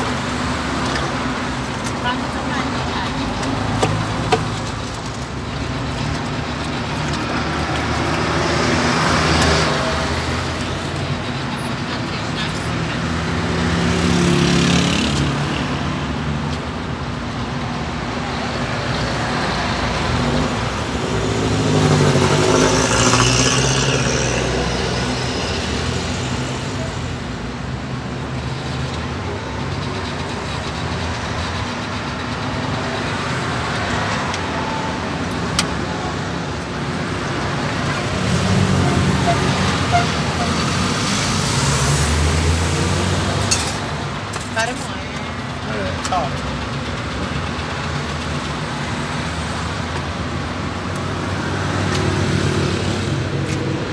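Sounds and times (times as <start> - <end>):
road traffic drone: 0.0 - 53.9.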